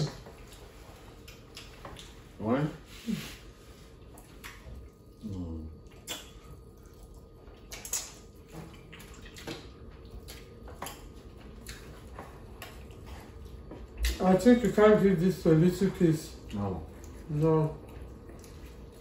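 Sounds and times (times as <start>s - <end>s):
wet chewing and lip smacks: 0.0s - 2.4s, 3.9s - 14.2s, 16.3s - 19.0s.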